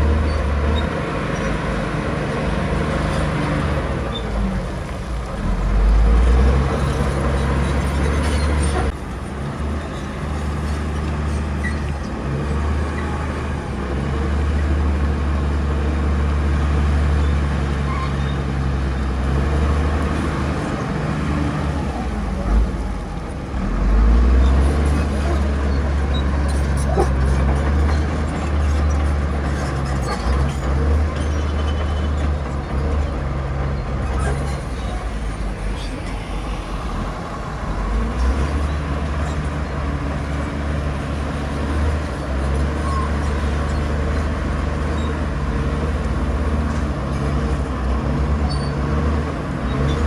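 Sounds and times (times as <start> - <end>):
bulldozer diesel engine droning: 0.0 - 50.0.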